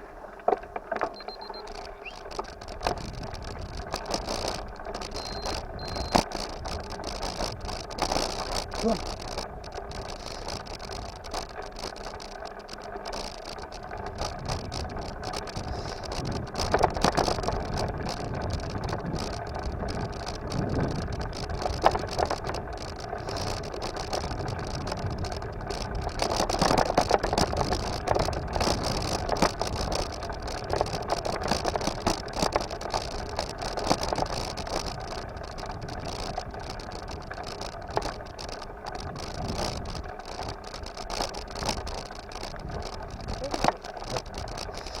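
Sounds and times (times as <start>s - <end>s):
bicycle clicks and rattles: 0.0s - 45.0s
bicycle rolling: 0.0s - 45.0s
bicycle knocks: 0.2s - 45.0s.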